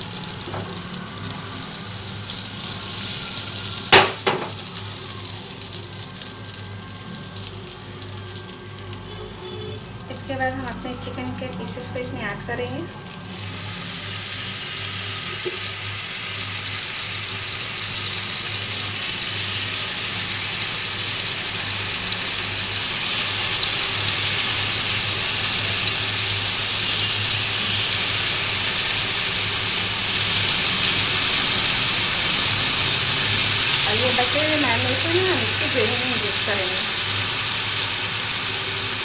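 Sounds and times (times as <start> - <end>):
chicken sizzling in a frying pan: 0.0 - 39.0.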